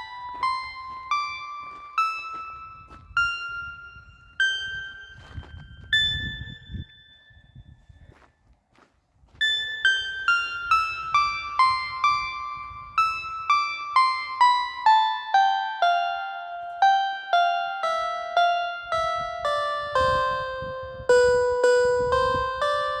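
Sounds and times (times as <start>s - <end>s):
slow piano melody: 0.0s - 7.1s, 9.4s - 23.0s.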